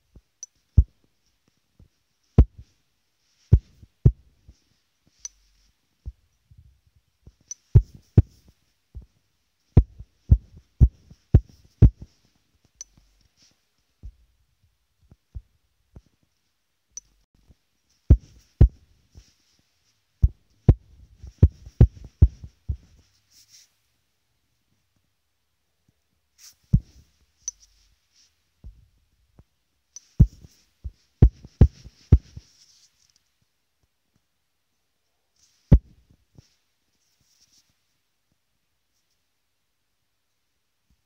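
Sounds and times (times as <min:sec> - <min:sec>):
faint scratchy hiss: 0:00.0 - 0:41.0.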